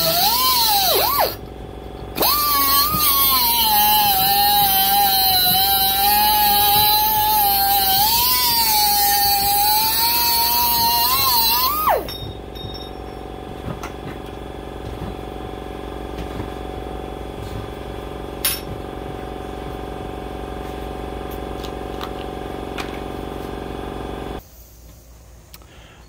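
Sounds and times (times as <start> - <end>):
machine hum: 0.0 - 24.4.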